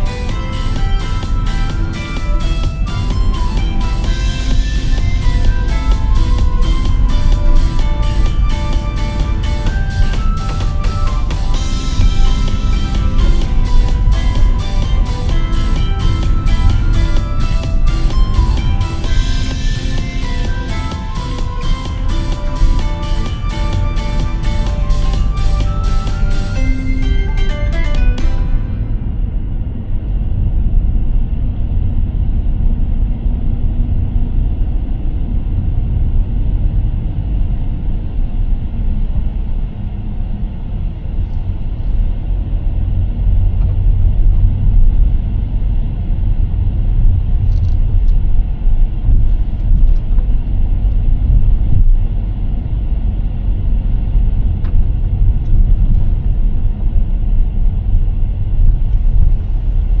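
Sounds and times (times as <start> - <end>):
car driving rumble: 0.0 - 60.0.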